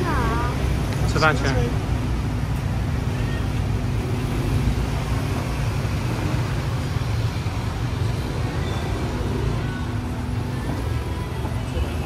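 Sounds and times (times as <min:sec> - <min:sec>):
cars and scooters passing: 0:00.0 - 0:12.0
faint engine hum: 0:00.0 - 0:12.0.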